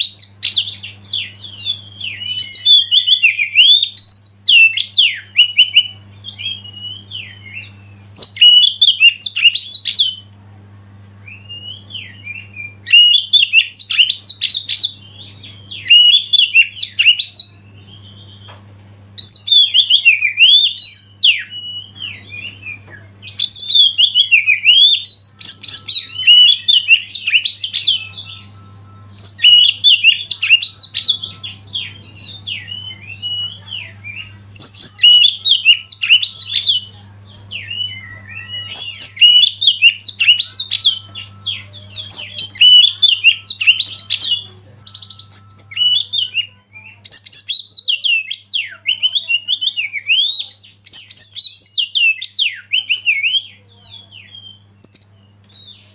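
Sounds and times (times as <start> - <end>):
bird singing whistled notes: 0.0 - 10.2, 11.2 - 36.9, 37.6 - 55.9
faint low hum: 0.0 - 55.9.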